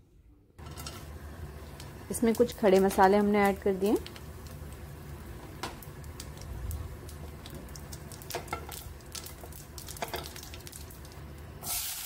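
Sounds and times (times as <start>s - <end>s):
spices crackling in hot oil: 0.6s - 12.0s.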